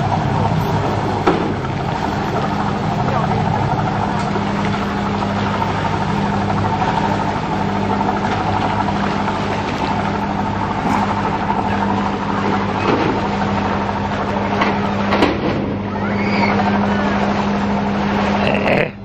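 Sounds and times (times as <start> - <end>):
boat engine running: 0.0 - 19.0
water wash: 0.0 - 19.0.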